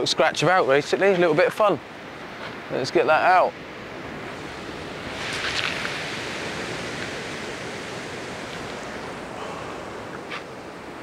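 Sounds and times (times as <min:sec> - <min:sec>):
sea surf breaking: 0:00.0 - 0:11.0.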